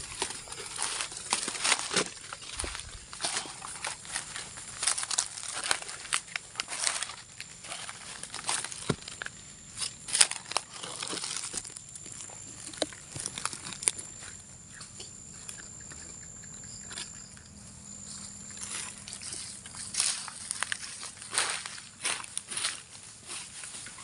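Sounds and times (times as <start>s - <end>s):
footsteps crunching through dry leaves: 0.0s - 14.2s, 18.2s - 24.0s.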